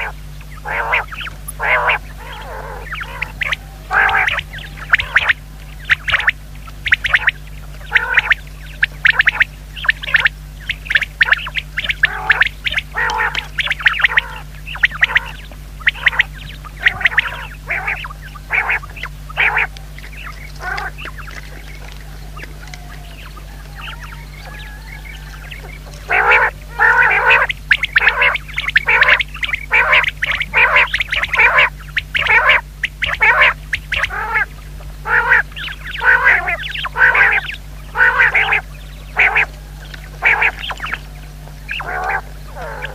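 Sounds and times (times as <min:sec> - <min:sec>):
quail calling: 0:00.0 - 0:42.9.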